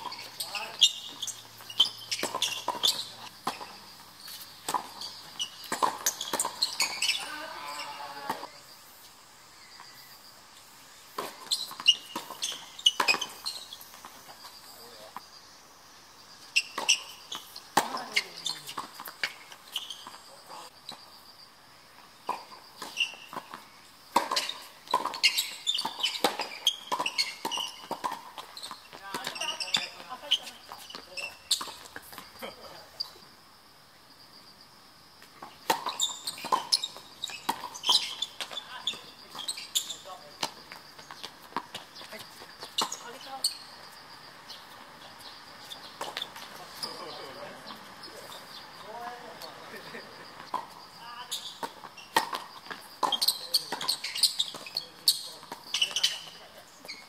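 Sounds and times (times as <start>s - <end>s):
tennis balls bouncing on hard court: 0.0s - 8.6s, 11.1s - 15.3s, 16.4s - 21.0s, 22.2s - 32.7s, 35.2s - 43.7s, 44.4s - 57.0s
tennis balls struck by rackets: 0.0s - 8.7s, 11.1s - 14.4s, 16.4s - 20.6s, 22.2s - 32.4s, 35.2s - 43.7s, 44.5s - 57.0s.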